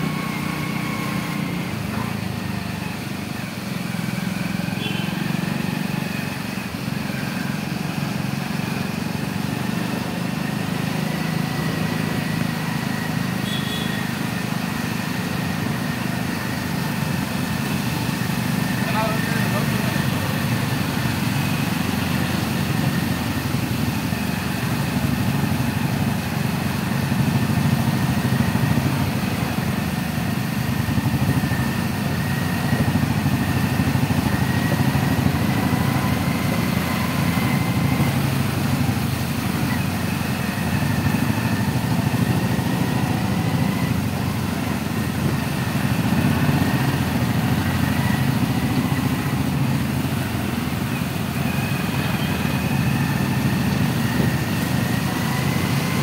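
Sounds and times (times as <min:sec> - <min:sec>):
motorbike engine running: 0:00.0 - 0:56.0
surrounding traffic engines: 0:00.0 - 0:56.0.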